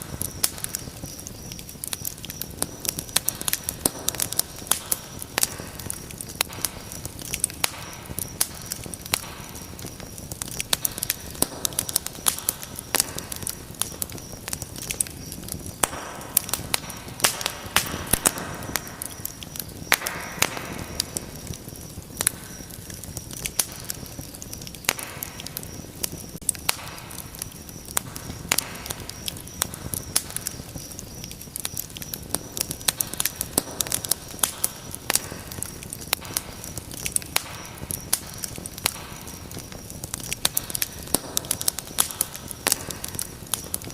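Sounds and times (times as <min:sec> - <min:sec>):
flames rushing: 0:00.0 - 0:43.9
wood fire crackling: 0:00.0 - 0:43.9.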